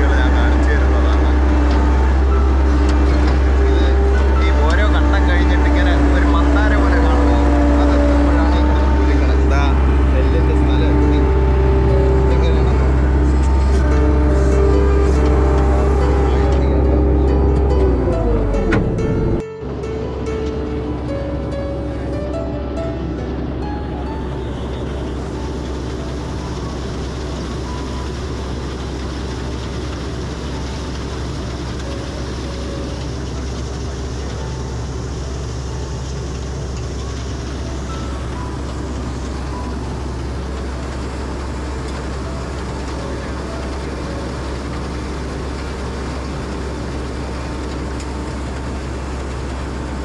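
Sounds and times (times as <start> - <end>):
combine harvester engine drone: 0.0 - 50.0.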